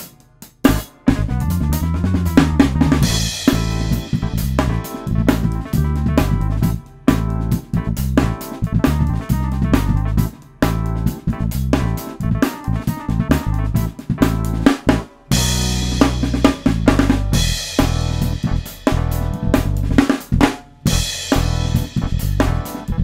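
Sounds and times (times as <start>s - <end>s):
choppy keyboard chords: 0.0s - 23.0s
drum kit playing funk groove: 0.0s - 23.0s
heavy bass line: 0.6s - 23.0s.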